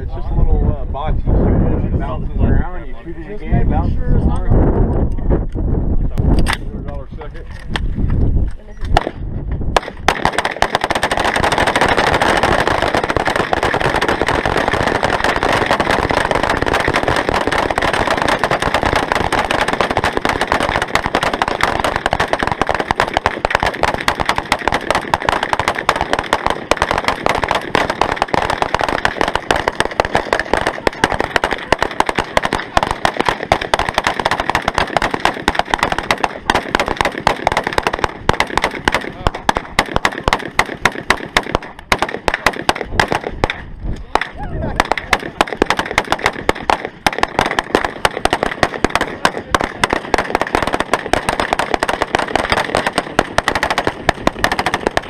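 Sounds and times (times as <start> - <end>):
rapid automatic gunfire: 9.8 - 55.0.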